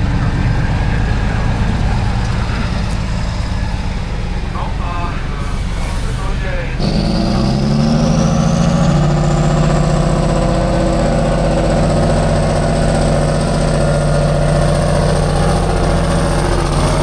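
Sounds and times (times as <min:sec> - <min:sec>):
high whine: 0:00.0 - 0:17.0
truck diesel engine revving: 0:00.0 - 0:17.0.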